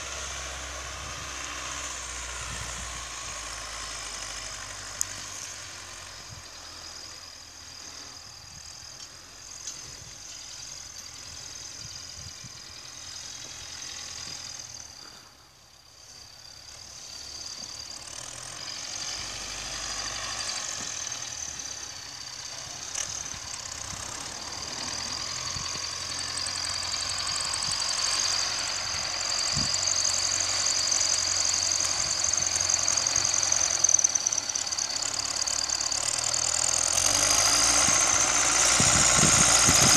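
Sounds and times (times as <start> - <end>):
distant tractor diesel engine: 0.0 - 39.9.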